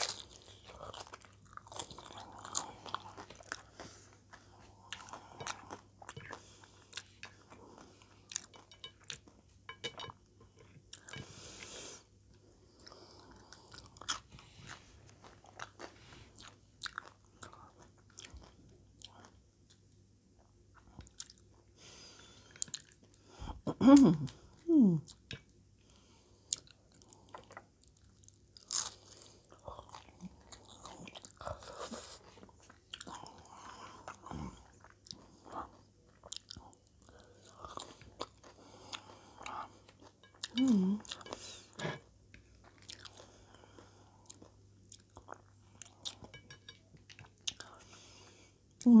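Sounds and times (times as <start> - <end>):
chewing and crunching chips: 0.0 - 11.3, 12.3 - 48.9.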